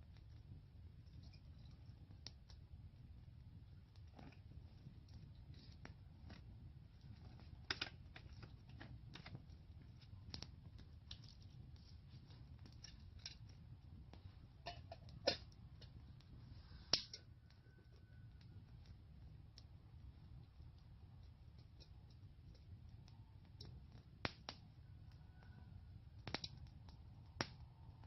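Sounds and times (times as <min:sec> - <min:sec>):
campfire wood crackling: 0:00.0 - 0:28.0
low steady rumble: 0:00.0 - 0:28.0.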